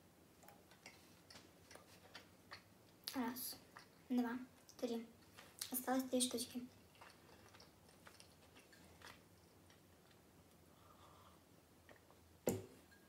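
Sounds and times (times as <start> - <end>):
faint chewing: 0.4 - 12.2.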